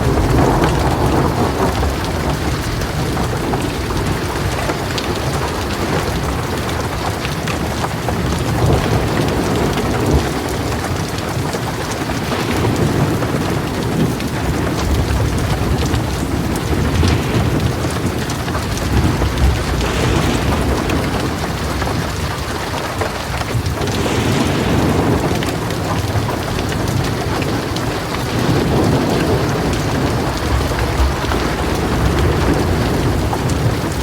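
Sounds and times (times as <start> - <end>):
heavy rain pouring: 0.0 - 34.0
low thunder rumbling: 0.0 - 34.0.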